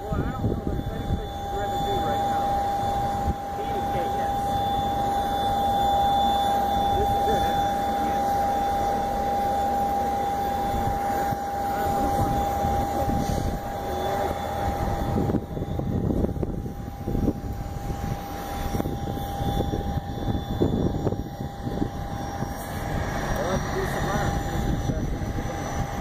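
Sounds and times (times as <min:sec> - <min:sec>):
jet engine whine and rumble: 0:00.0 - 0:26.0.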